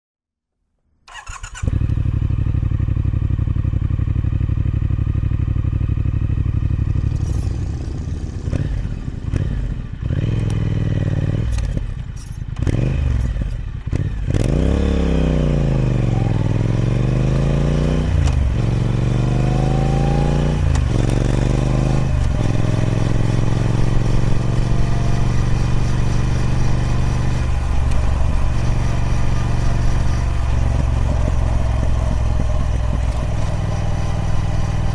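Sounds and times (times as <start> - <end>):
motorcycle engine revving: 1.1 - 34.9.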